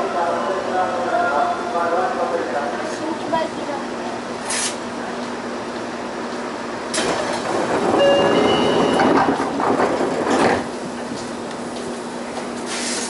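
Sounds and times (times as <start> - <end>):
train rattling: 0.0 - 13.0.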